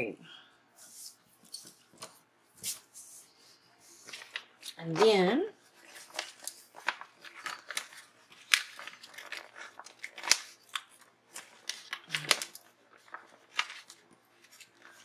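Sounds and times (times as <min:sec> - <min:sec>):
paper rustling: 0:00.8 - 0:15.0.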